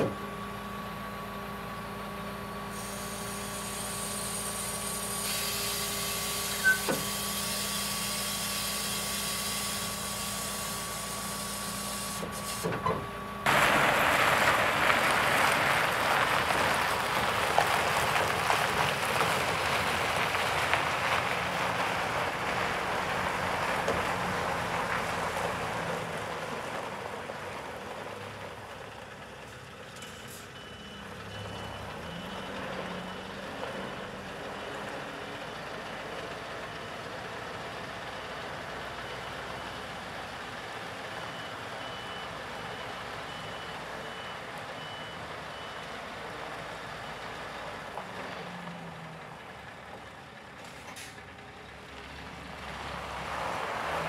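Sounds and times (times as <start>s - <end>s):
diesel engine idling with whine: 0.0s - 54.0s.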